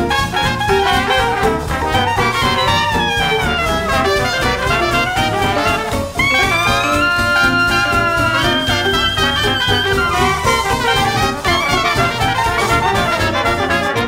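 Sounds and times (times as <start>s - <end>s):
jazz brass horns: 0.0s - 14.0s.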